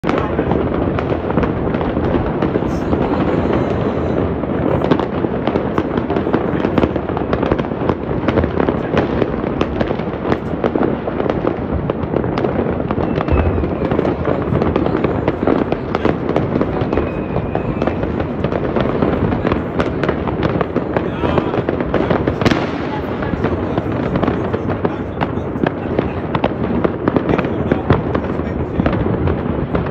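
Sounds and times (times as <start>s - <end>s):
fireworks and firecrackers crackling: 0.0s - 29.9s.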